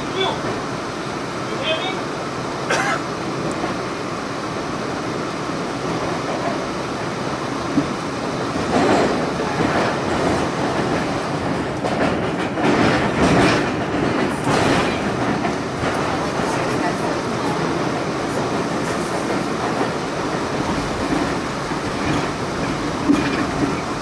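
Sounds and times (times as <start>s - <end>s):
rattling of subway car: 0.0s - 24.0s
subway car wheels rumbling on track: 0.0s - 24.0s.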